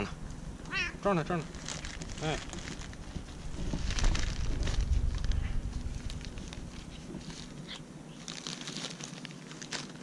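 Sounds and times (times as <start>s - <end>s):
plastic bag crinkling: 1.2s - 10.0s.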